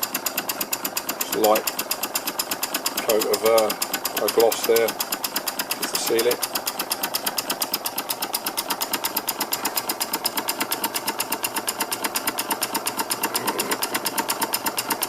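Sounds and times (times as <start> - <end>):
model engine exhaust chuffing: 0.0 - 15.0.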